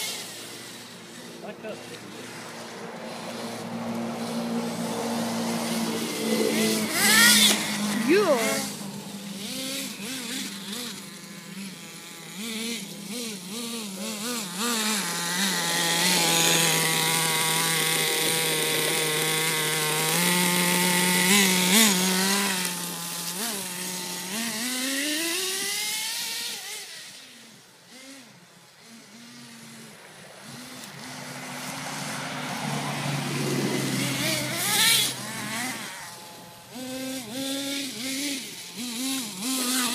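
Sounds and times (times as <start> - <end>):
toy truck motor revving: 0.0 - 39.9.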